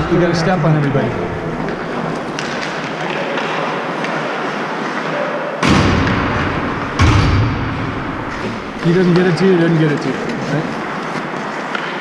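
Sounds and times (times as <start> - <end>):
ice rink noise: 0.0 - 12.0.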